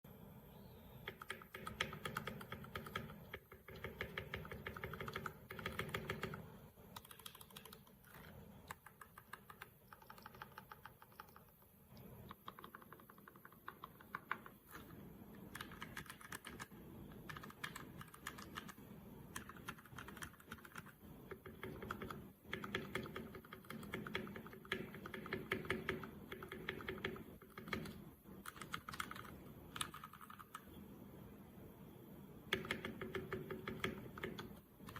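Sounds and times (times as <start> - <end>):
mechanical keyboard typing: 1.0 - 30.8, 32.4 - 34.9.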